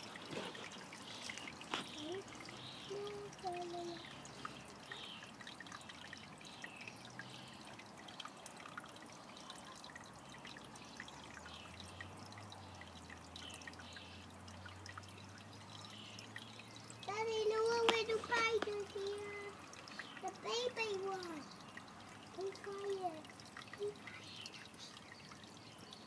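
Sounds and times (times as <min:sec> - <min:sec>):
water drips: 0:00.0 - 0:26.0
water trickling: 0:00.0 - 0:26.0.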